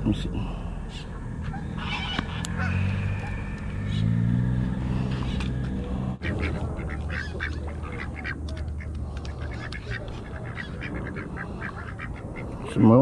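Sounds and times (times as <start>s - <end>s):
low motor hum: 0.0s - 12.7s
ducks quacking: 1.1s - 13.0s.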